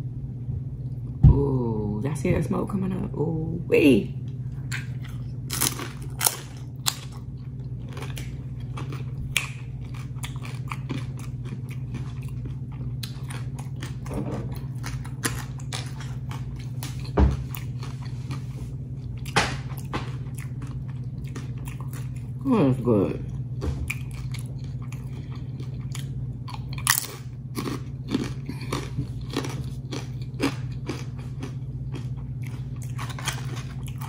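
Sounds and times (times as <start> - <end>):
low hum: 0.0 - 34.0
chips being chewed: 4.6 - 22.4, 23.3 - 34.0.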